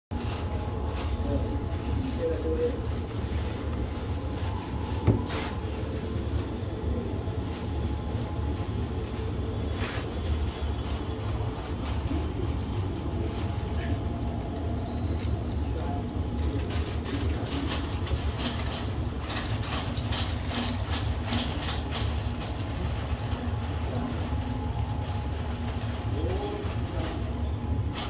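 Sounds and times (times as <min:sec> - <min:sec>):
steady low machine hum: 0:00.1 - 0:28.0.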